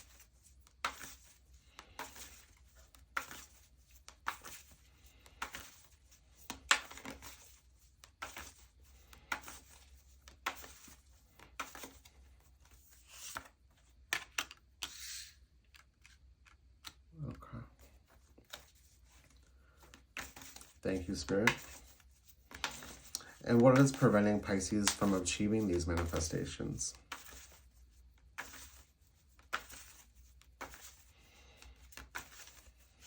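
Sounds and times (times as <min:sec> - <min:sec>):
cards being shuffled by hand: 0:00.0 - 0:33.0.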